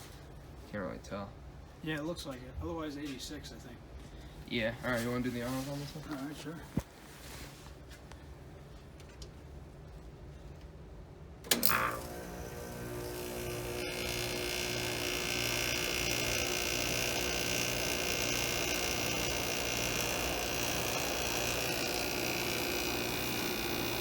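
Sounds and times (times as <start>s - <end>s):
air conditioner hum: 0.0s - 24.0s.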